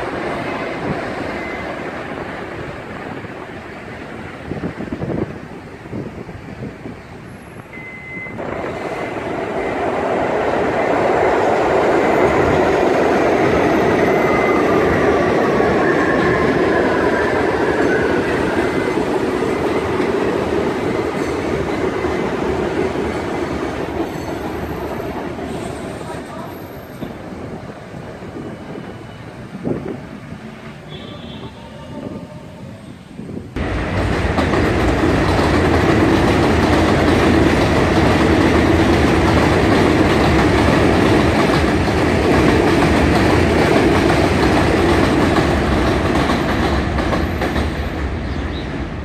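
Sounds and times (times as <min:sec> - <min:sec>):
elevated train rumble: 0:00.0 - 0:49.0.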